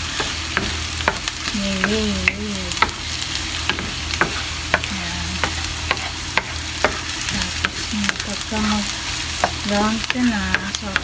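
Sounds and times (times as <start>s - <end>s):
onion sizzling in frying pan: 0.0s - 11.0s.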